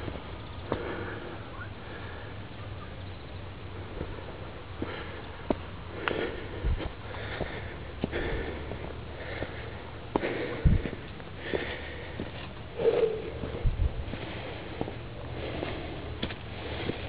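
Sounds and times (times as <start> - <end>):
person breathing hard: 0.0 - 2.5, 3.8 - 17.0.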